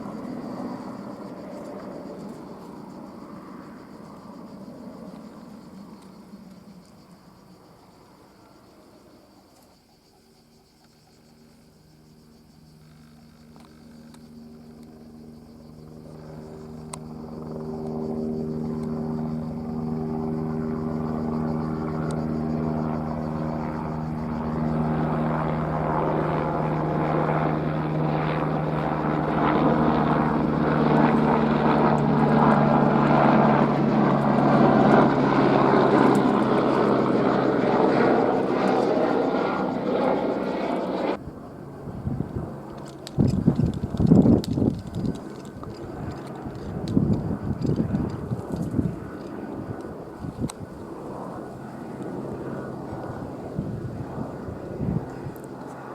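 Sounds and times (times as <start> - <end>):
helicopter turbine and rotor: 0.0 - 55.9.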